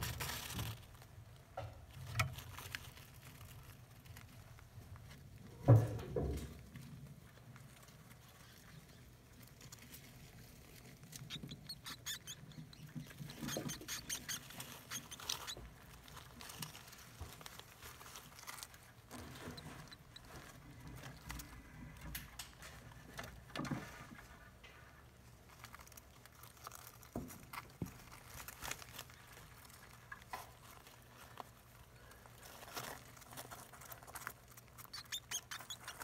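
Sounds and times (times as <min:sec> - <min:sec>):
rats rustling in paper bedding: 0:00.0 - 0:01.2, 0:01.9 - 0:05.5, 0:06.6 - 0:21.6, 0:22.6 - 0:36.0.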